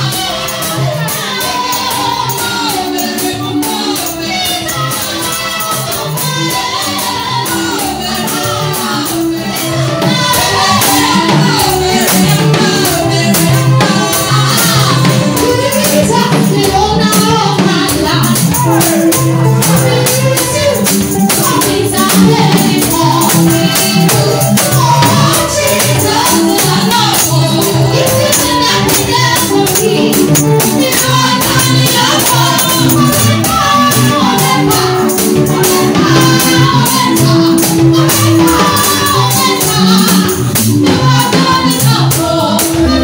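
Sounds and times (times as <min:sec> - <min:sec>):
gospel singing: 0:00.0 - 0:43.0
jingling tambourine percussion: 0:00.0 - 0:43.0.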